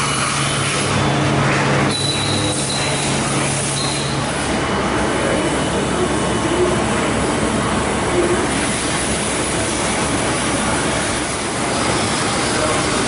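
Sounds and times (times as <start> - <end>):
lathe machine rushing noise: 0.0 - 13.0.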